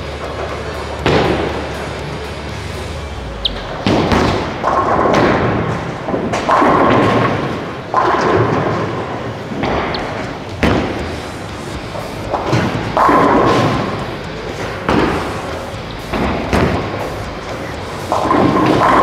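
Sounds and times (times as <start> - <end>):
bowling balls thudding and rolling: 0.0 - 19.0
bowling pins crashing: 3.6 - 19.0.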